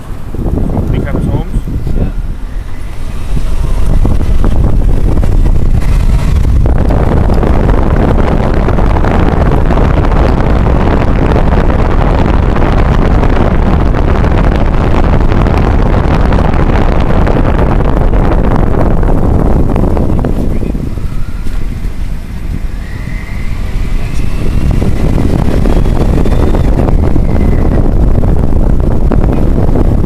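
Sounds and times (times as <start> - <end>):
car road and wind rumble: 0.0 - 30.0.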